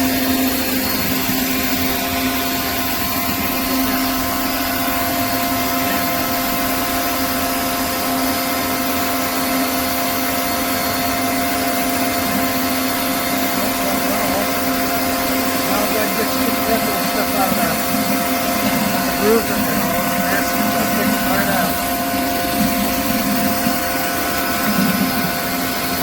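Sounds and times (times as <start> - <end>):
pressure washer hum: 0.0 - 26.0
water jet hissing on concrete: 0.0 - 26.0.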